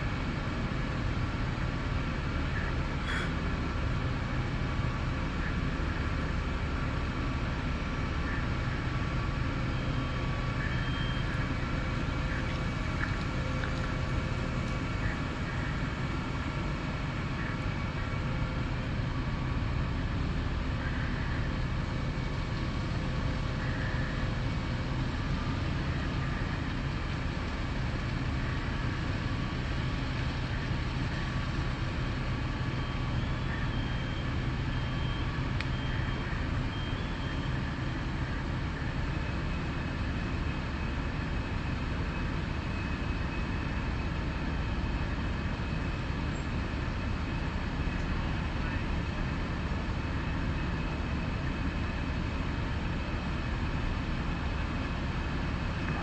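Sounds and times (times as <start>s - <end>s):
fire truck engine running: 0.0s - 56.0s.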